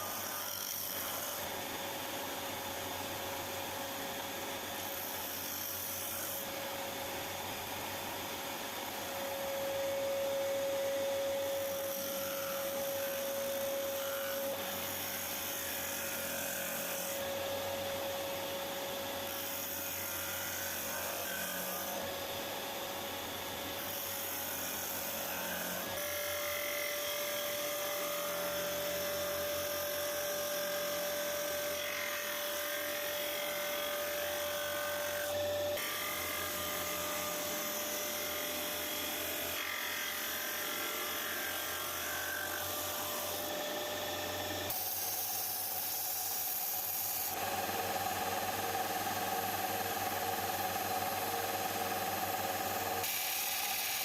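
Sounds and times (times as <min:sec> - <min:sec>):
electric power tool motor whine: 0:00.0 - 0:54.0.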